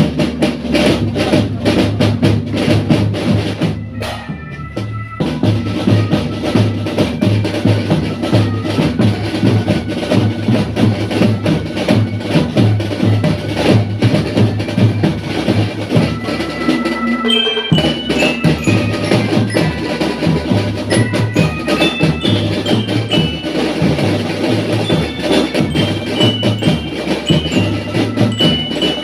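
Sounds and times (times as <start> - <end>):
marching drum band: 0.0 - 29.0.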